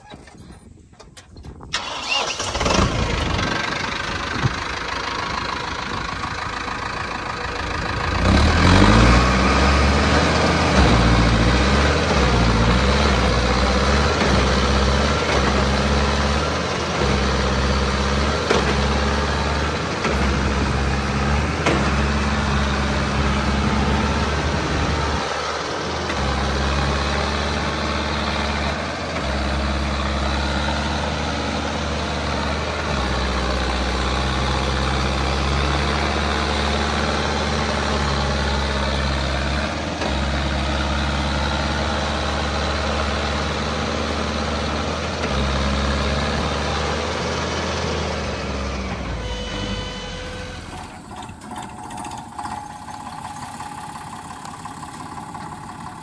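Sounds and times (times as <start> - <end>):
lighter diesel engine running: 0.0 - 56.0
tractor diesel engine working hard: 0.0 - 56.0.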